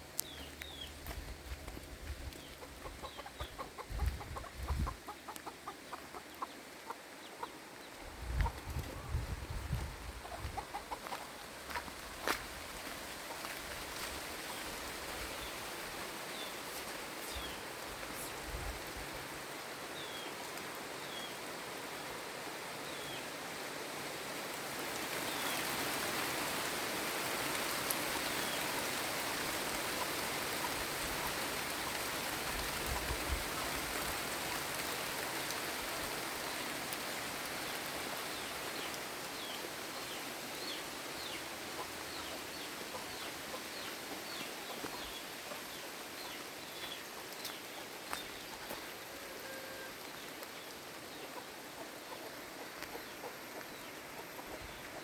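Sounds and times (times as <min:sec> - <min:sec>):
rain falling: 0:05.0 - 0:55.0.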